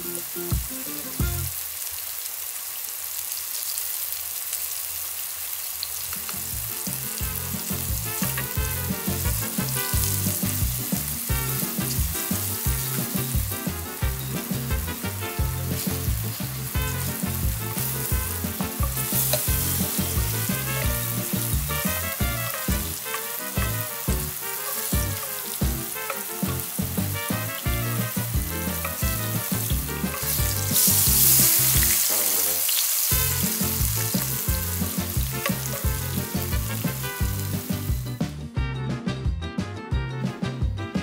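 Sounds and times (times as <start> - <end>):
mushrooms sizzling in hot oil: 0.0 - 38.2.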